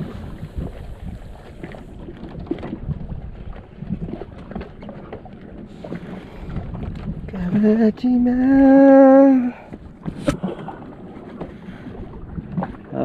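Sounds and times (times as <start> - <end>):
water against boat hull: 0.0 - 13.0
wind buffeting microphone: 0.0 - 13.0.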